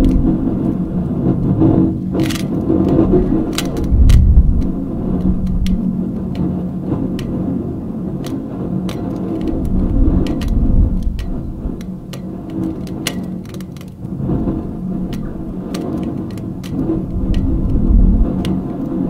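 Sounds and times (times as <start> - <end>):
dense low rumble: 0.0 - 19.0
steady hum tones: 0.0 - 19.0
sharp clicks: 2.0 - 7.5, 8.2 - 14.1, 15.0 - 19.0.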